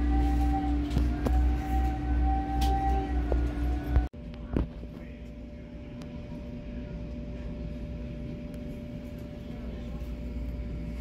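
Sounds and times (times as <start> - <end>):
low machinery drone: 0.0 - 11.0
mid-pitched whine: 0.0 - 11.0.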